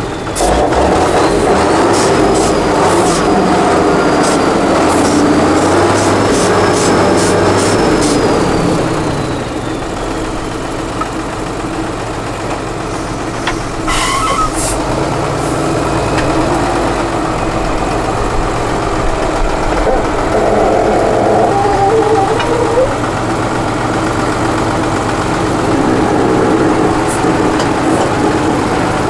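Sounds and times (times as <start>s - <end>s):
diesel truck engine at low revs: 0.0s - 29.0s.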